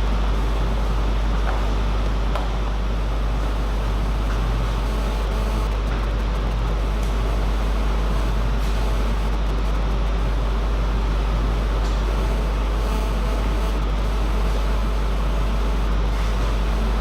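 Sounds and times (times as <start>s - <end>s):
steady low hum: 0.0s - 17.0s
even noise: 3.0s - 17.0s.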